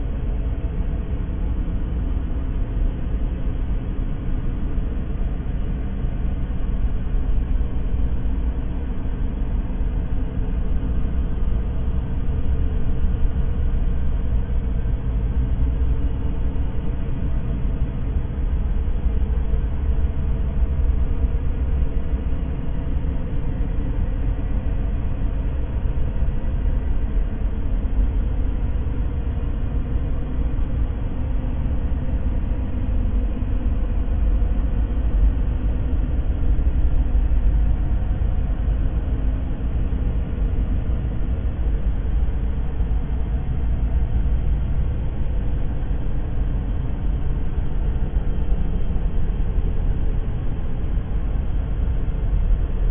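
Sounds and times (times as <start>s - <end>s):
deep steady rumble: 0.0s - 52.9s.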